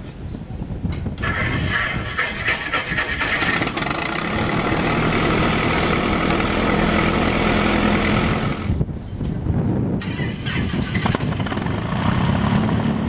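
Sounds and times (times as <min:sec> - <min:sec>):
propeller plane engine running: 0:01.2 - 0:08.9, 0:09.9 - 0:13.0.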